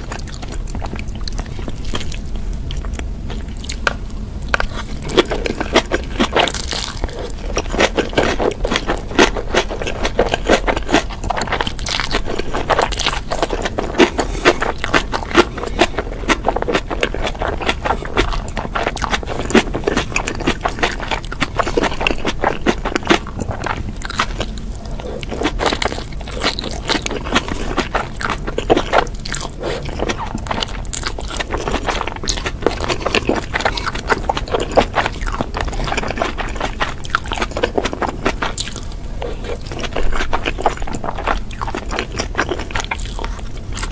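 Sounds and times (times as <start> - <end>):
slurping and chewing noodles: 0.0 - 3.9, 4.5 - 43.9.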